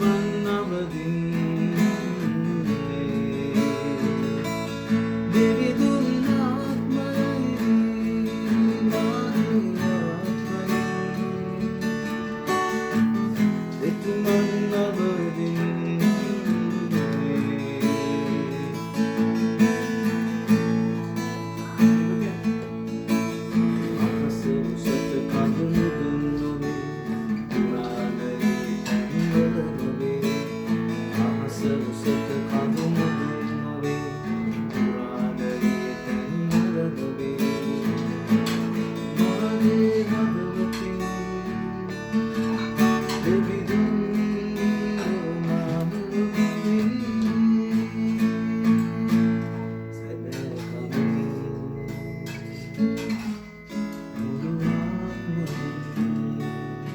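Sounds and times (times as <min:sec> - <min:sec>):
acoustic guitar strumming chords: 0:00.0 - 0:56.9.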